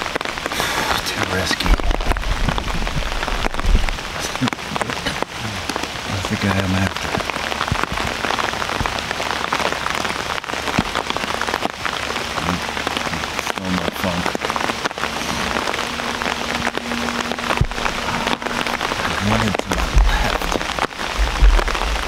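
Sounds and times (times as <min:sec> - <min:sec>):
raindrops ticking close by: 0:00.0 - 0:22.0
steady rain hiss: 0:00.0 - 0:22.0.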